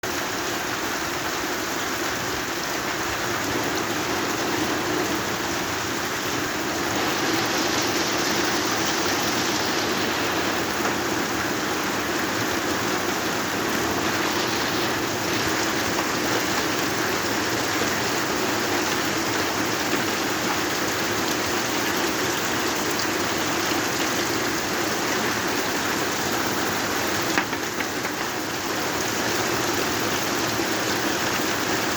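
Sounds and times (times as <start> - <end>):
rain pattering: 0.1 - 31.9.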